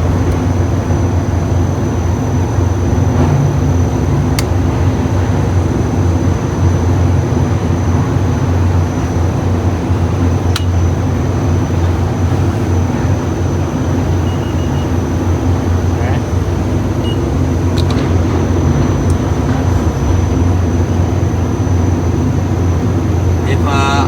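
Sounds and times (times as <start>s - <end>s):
high whine: 0.0s - 24.0s
low machine hum: 0.0s - 24.0s.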